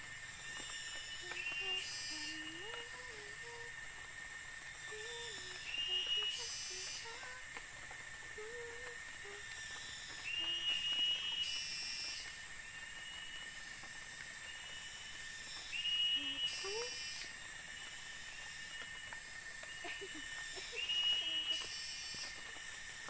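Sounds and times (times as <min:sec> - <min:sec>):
constant whistling tone: 0:00.0 - 0:23.0
insect drone: 0:00.0 - 0:23.0
shrill pulsing insect calls: 0:00.0 - 0:23.0.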